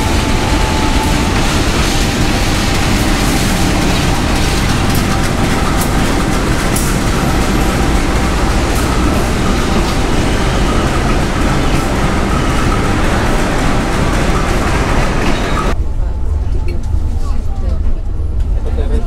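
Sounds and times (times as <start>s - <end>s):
sharp rail clicks: 0.0s - 15.8s
train rumbling on rails: 0.0s - 19.0s.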